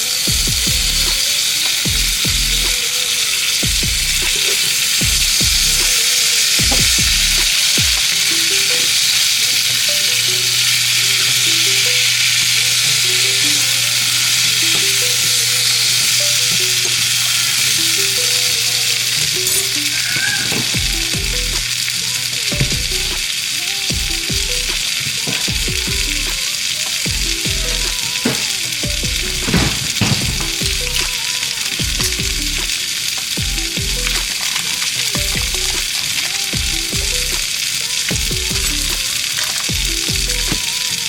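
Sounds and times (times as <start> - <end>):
fish sizzling in a pan: 0.0 - 41.0.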